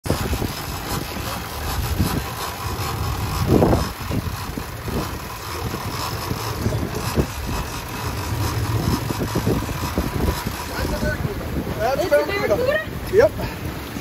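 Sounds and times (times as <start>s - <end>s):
outboard motors idling: 0.0s - 14.0s
sea noise: 0.0s - 14.0s
wind: 0.0s - 14.0s.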